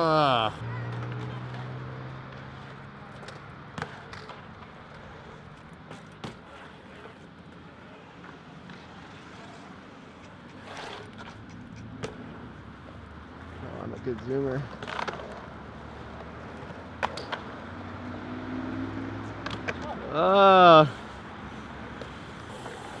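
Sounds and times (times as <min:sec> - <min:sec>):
wheels rushing on concrete: 0:00.0 - 0:23.0.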